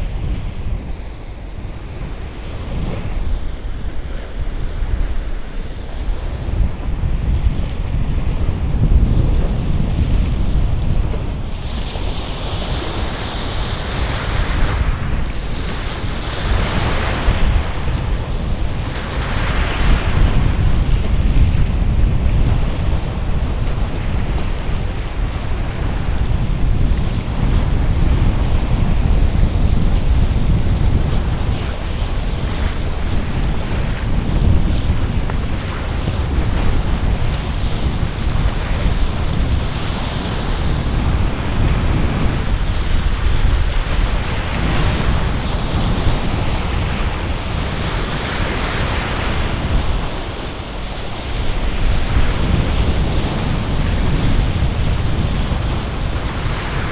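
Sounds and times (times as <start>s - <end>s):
waves washing in: 0.0s - 56.9s
wind buffeting microphone: 0.0s - 56.9s.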